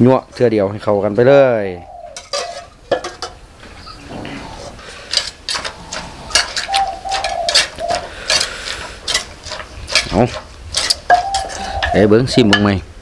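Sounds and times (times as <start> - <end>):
birds calling: 0.0 - 12.9.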